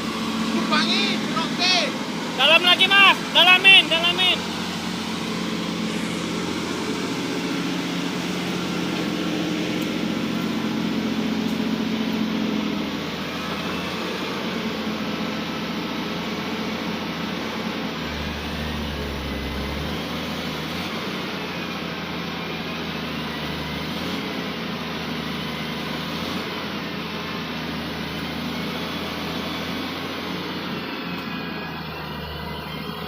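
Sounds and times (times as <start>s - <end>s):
excavator diesel engine running: 0.0s - 33.0s
hydraulic whine: 0.0s - 33.0s.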